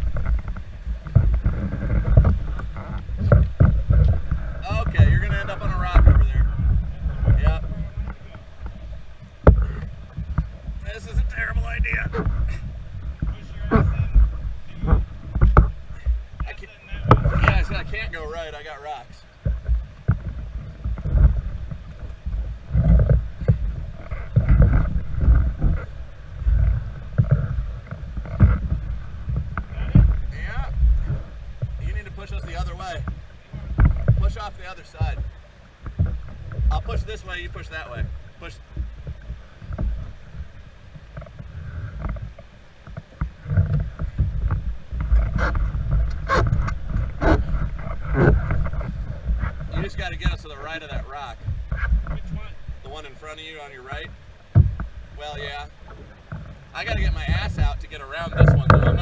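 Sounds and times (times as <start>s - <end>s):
paddle strokes splashing water: 0.0s - 59.0s
wind rumbling on microphone: 0.0s - 59.0s.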